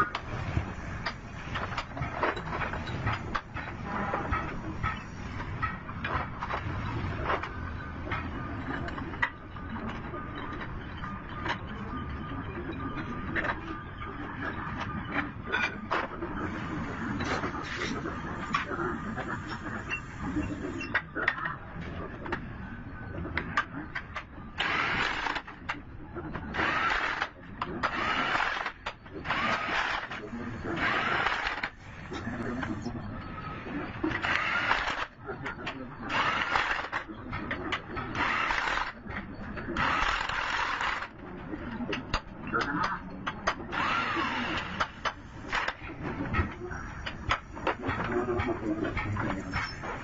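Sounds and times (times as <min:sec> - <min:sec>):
steady background noise: 0:00.0 - 0:50.0.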